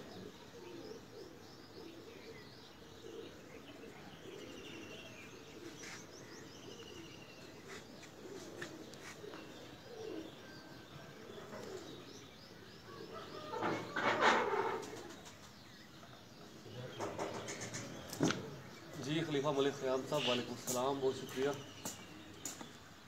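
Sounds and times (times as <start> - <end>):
pigeons cooing: 0.0 - 22.9
small birds chirping: 0.0 - 23.0.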